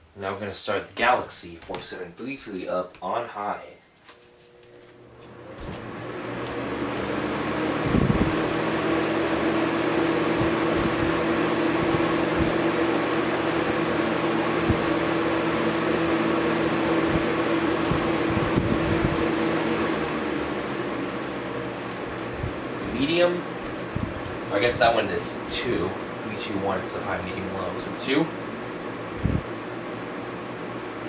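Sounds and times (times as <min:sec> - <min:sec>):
box fan motor hum and air rush: 0:00.0 - 0:31.0.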